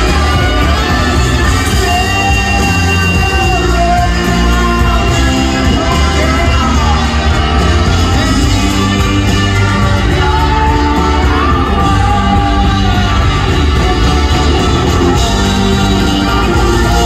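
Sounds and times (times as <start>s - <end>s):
rock band with brass playing: 0.0s - 17.0s
trombone sliding lines: 0.0s - 17.0s.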